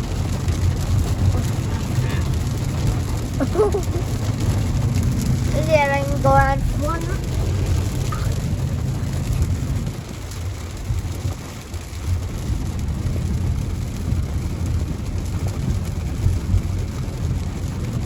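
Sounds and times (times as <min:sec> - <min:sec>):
car driving rumble: 0:00.0 - 0:18.0
rain on windshield and roof: 0:00.0 - 0:18.0.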